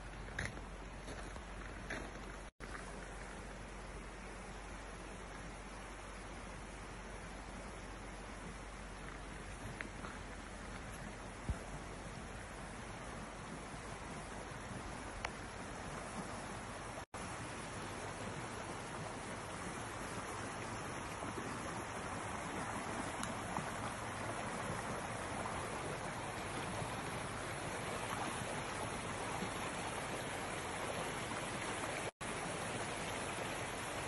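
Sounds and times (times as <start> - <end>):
stream running over rocks: 0.0 - 34.0.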